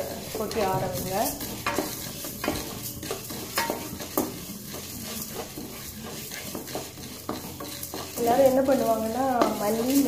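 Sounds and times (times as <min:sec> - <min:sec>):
seeds scraping in a pan: 0:00.0 - 0:10.0.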